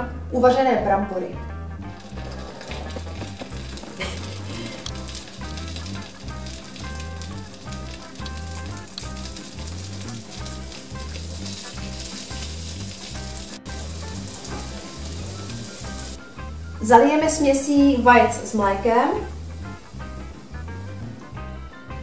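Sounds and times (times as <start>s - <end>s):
potatoes sizzling in oil: 1.7s - 22.0s.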